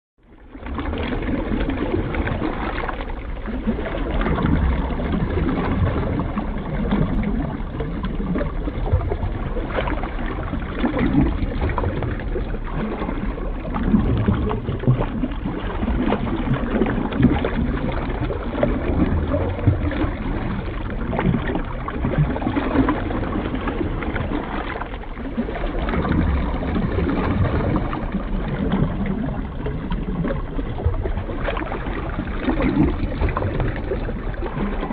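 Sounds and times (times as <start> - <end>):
muffled underwater sloshing: 0.2 - 34.9.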